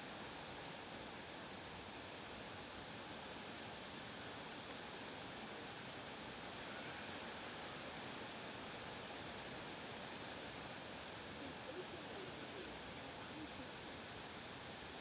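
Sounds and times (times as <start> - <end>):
steady wind hiss: 0.0 - 15.0.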